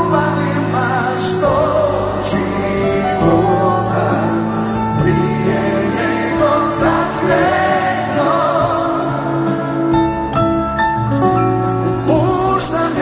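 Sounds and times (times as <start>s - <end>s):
person singing: 0.0s - 10.0s, 11.9s - 13.0s
piano: 0.0s - 13.0s.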